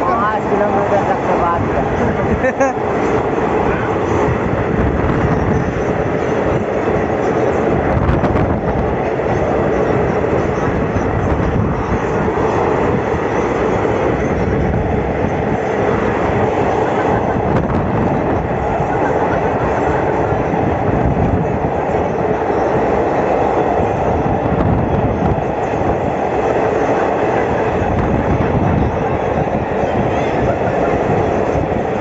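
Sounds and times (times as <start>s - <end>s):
wind at open window: 0.0s - 32.0s.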